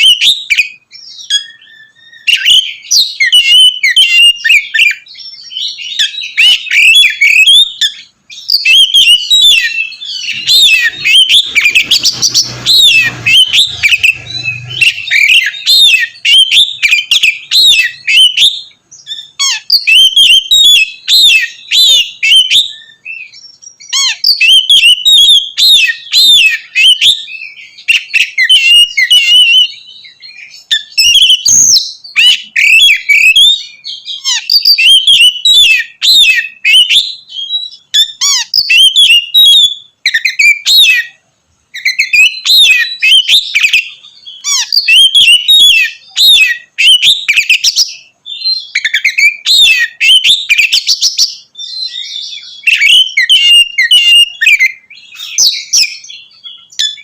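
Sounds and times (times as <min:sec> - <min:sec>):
songbird whistling and chattering: 0:00.0 - 0:57.0.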